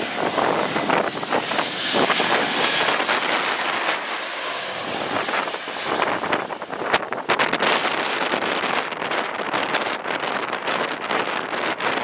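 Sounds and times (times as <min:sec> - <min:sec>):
jet engines roaring: 0:00.0 - 0:12.0
wind buffeting microphone: 0:00.0 - 0:12.0.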